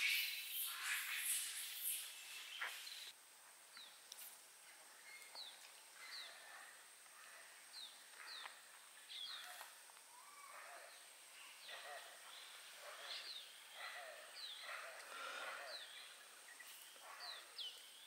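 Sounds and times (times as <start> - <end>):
faint bird calls: 0.0 - 3.1, 4.9 - 18.0
soft hiss: 0.0 - 15.2, 15.8 - 18.0.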